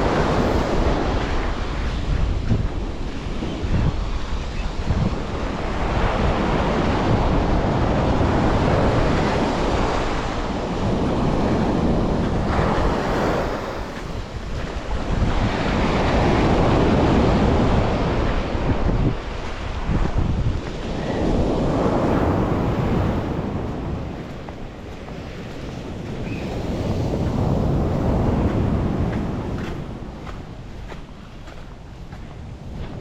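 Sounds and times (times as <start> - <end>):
sea waves washing onto beach: 0.0 - 33.0
wind rumbling on microphone: 0.0 - 33.0.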